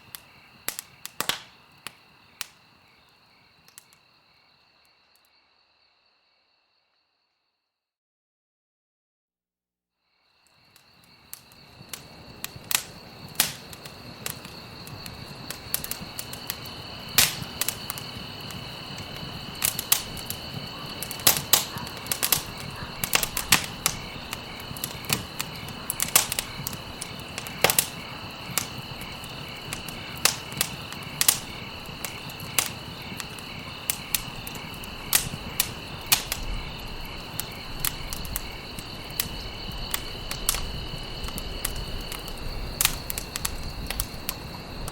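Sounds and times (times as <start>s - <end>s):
wood fire crackling and popping: 0.0s - 3.0s, 3.6s - 4.0s, 10.4s - 44.9s.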